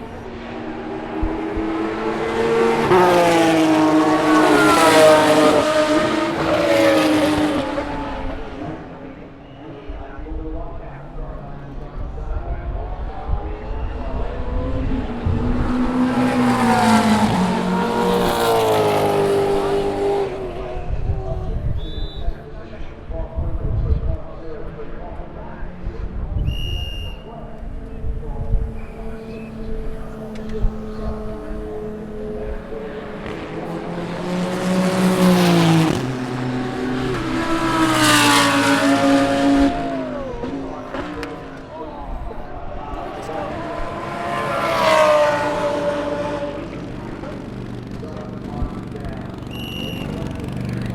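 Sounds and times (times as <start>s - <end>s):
racing car engines passing: 0.0s - 50.9s.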